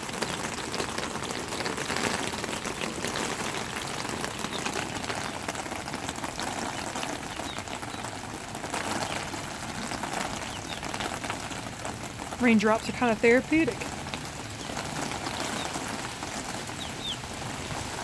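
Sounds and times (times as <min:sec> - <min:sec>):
rain on a tarp roof: 0:00.0 - 0:18.0.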